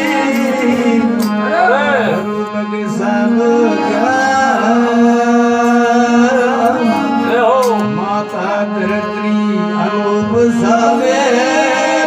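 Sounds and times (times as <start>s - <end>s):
man singing devotional song: 0.0s - 12.0s
plucked string drone: 0.0s - 12.0s.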